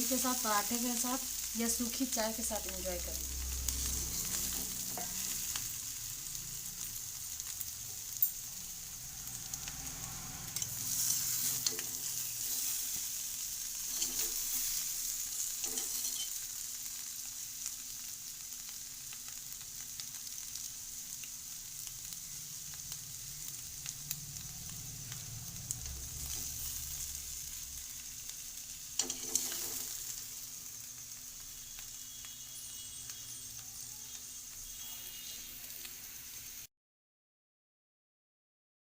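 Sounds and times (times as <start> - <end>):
potatoes frying in oil: 0.0 - 36.7.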